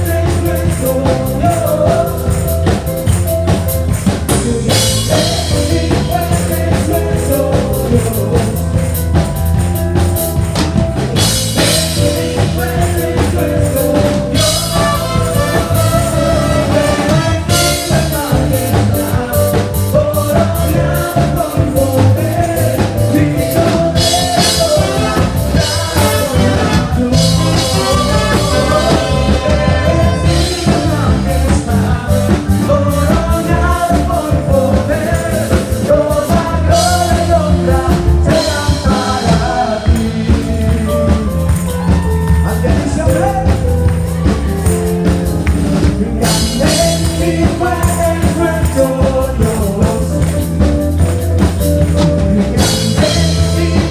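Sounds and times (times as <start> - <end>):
person singing: 0.0 - 9.6, 10.6 - 53.9
band playing a song: 0.0 - 53.9
steady drum beat: 0.0 - 53.9.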